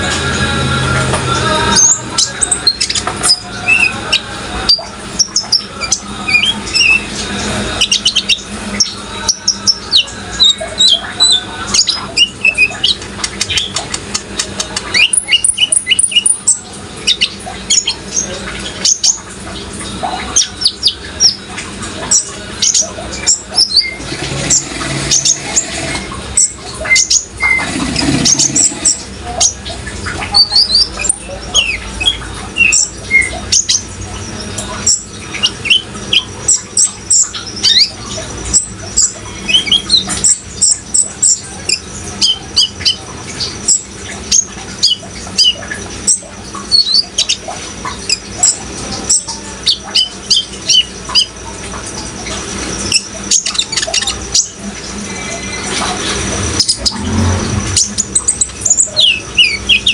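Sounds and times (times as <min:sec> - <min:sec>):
running water: 0:00.0 - 0:59.9
bird chirping and trilling: 0:01.7 - 0:59.9.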